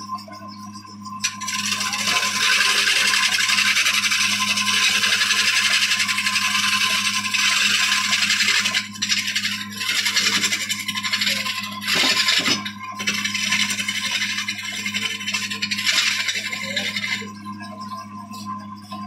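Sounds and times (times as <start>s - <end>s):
low motor hum: 0.0s - 19.0s
woodworking machine cutting wood: 1.2s - 18.1s.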